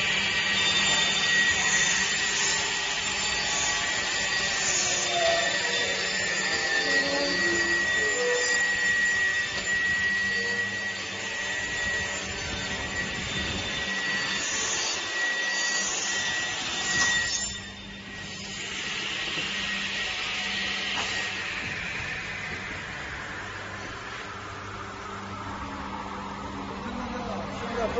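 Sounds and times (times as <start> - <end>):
machine noise: 0.0 - 27.9
saw whining: 0.0 - 27.9.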